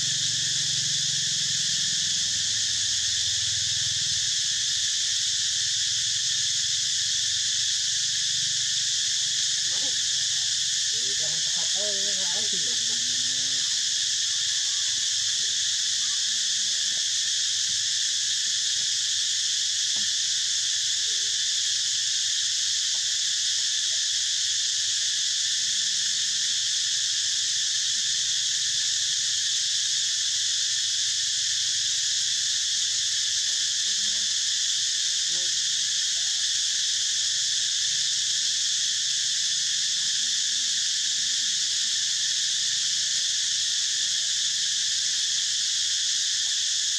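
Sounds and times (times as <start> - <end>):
insect chorus buzzing: 0.0 - 46.9.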